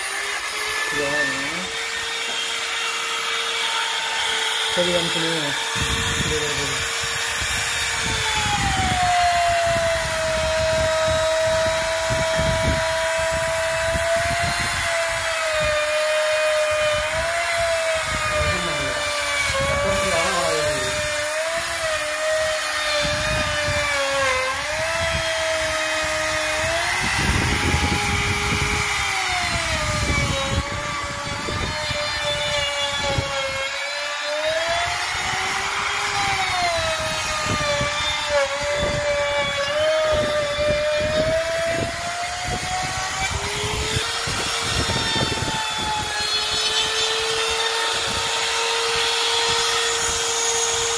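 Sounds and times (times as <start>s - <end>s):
electric router whining: 0.0s - 50.9s.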